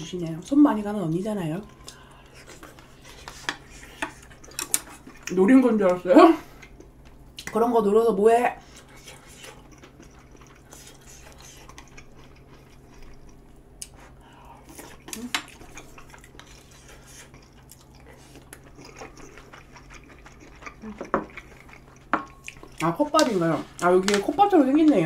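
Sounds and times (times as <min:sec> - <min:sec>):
faint low hum: 0:00.0 - 0:25.0
soft chewing: 0:01.2 - 0:07.6, 0:08.5 - 0:25.0.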